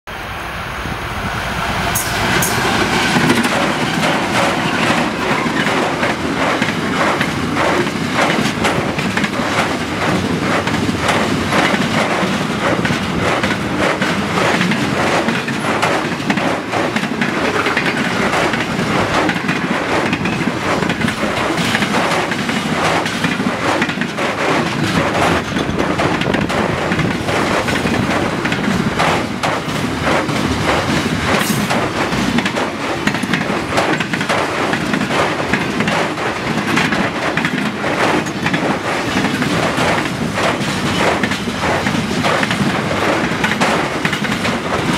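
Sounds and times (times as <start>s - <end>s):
diesel locomotive passing: 0.1s - 44.9s
train wheels clacking on rails: 1.3s - 44.9s.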